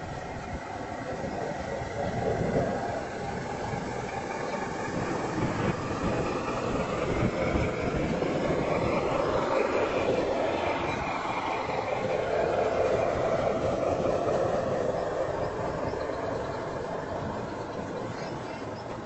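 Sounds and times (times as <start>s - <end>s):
model train wheels rolling on track: 0.0s - 19.0s.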